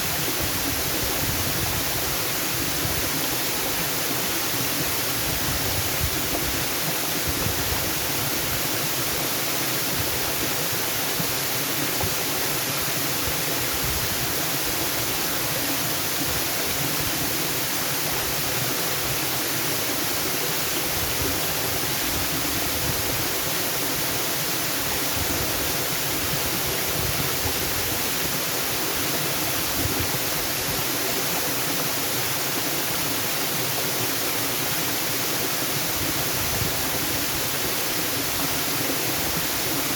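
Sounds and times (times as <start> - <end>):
waterfall hiss: 0.0 - 39.9.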